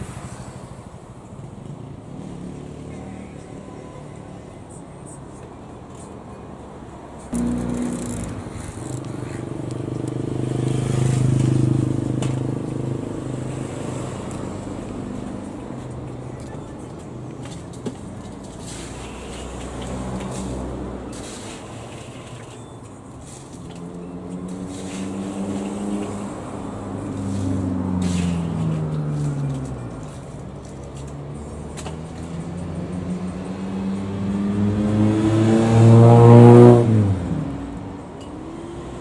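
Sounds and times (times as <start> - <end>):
vehicles passing by: 0.0 - 39.0.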